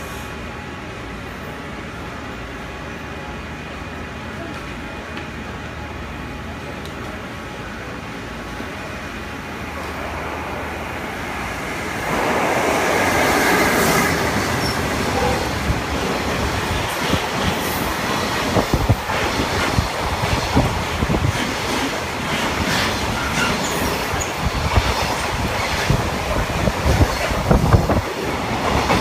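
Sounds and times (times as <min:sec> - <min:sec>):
electric locomotive running: 0:00.0 - 0:29.0.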